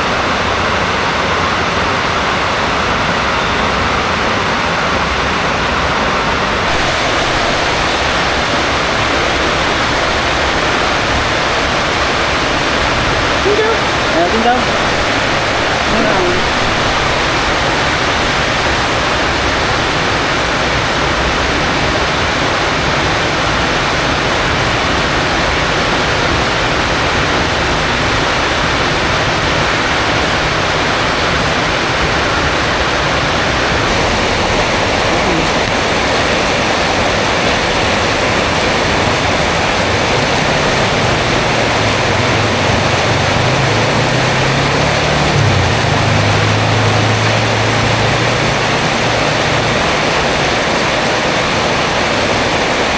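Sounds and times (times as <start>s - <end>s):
heavy rain pouring: 0.0s - 52.9s
low engine drone: 0.0s - 52.9s.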